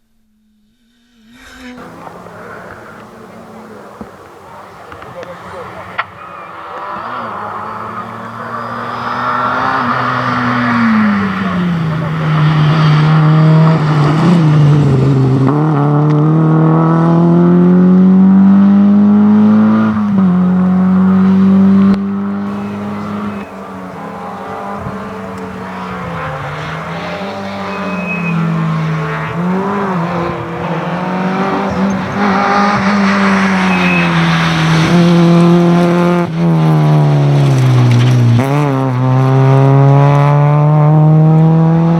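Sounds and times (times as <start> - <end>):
rally car engine revving: 1.0 - 41.9.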